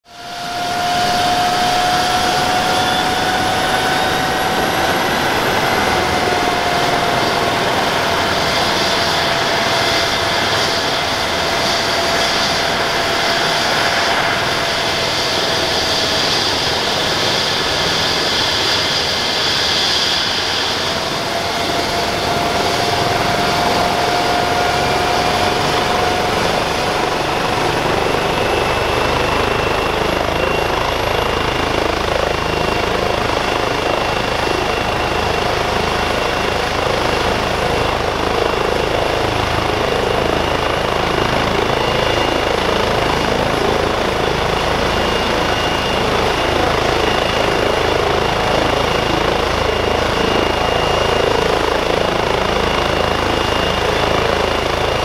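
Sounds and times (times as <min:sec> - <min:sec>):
helicopter turbine whine: 0:00.0 - 0:55.0.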